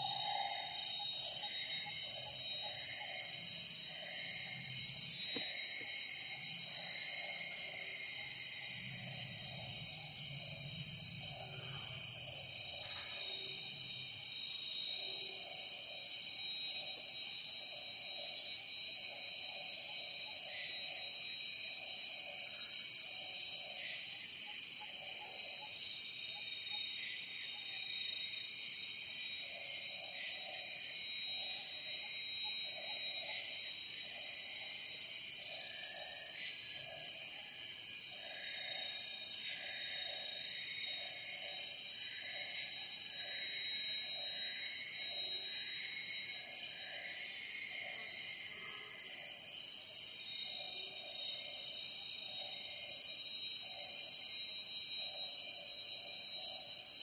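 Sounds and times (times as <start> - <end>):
insects and cicadas shrilling: 0.0 - 57.0.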